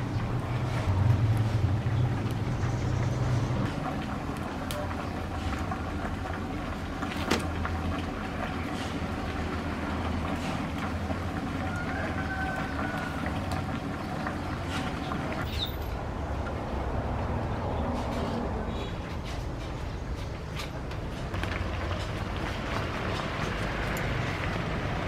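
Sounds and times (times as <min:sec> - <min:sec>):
wood fire crackling: 0:00.0 - 0:17.2, 0:19.6 - 0:25.0
fire low rumble: 0:00.0 - 0:25.0.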